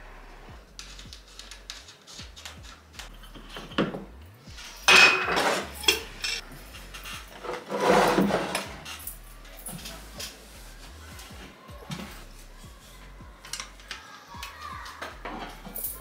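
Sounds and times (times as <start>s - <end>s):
dishes and utensils clinking: 0.8s - 12.7s, 14.7s - 16.0s.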